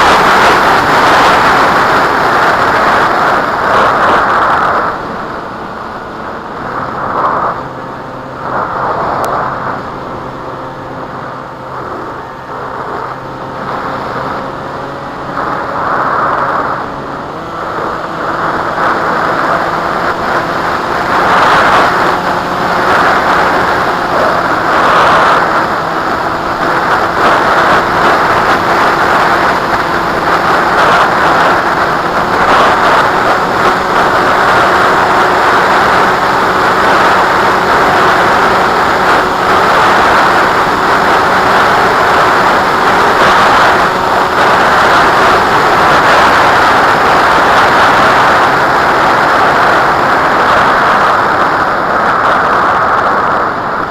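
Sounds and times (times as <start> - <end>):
steady motor hum: 0.0 - 53.9
wind gusting over microphone: 0.0 - 53.9.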